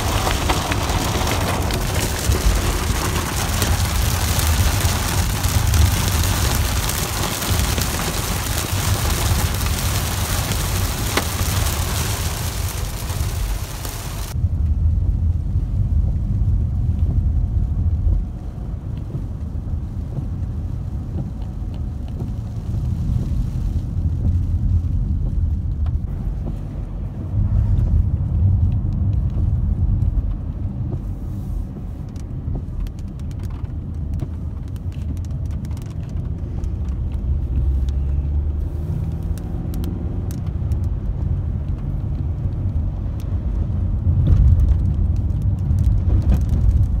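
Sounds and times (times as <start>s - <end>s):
car driving on wet road: 0.0s - 47.0s
heavy rain drumming on a car: 0.0s - 47.0s.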